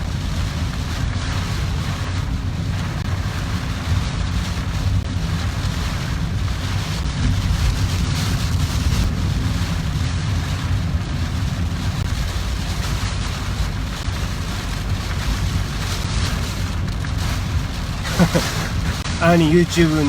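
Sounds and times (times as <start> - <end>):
heavy rain beating on a car: 0.0 - 20.0
tyres hissing on wet road: 0.0 - 20.0.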